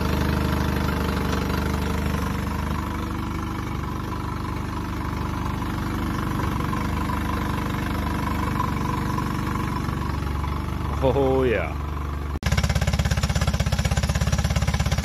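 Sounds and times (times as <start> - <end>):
outboard motor idling: 0.0 - 15.0.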